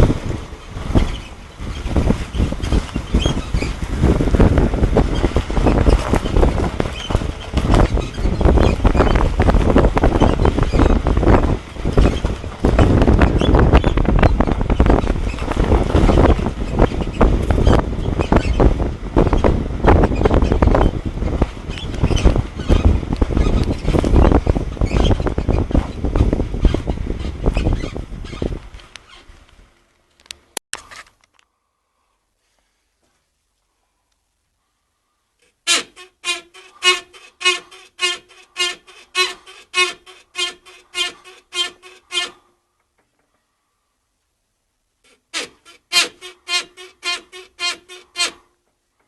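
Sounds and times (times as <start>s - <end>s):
suspension squeaking and creaking: 0.0s - 29.5s, 35.4s - 42.5s, 45.0s - 48.6s.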